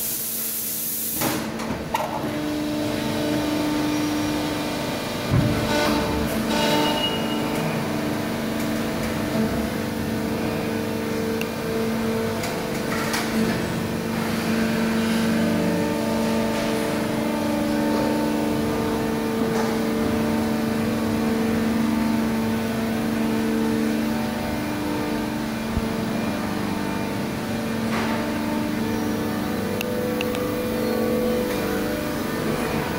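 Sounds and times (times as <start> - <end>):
machine humming: 1.7 - 32.9.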